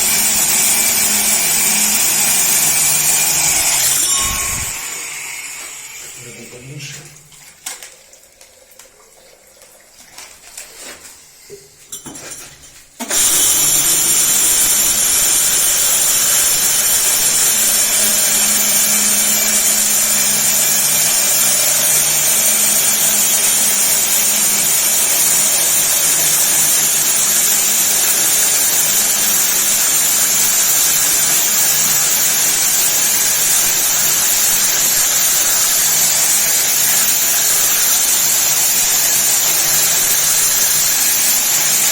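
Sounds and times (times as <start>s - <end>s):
core drill cutting concrete: 0.0s - 7.0s, 13.0s - 41.9s.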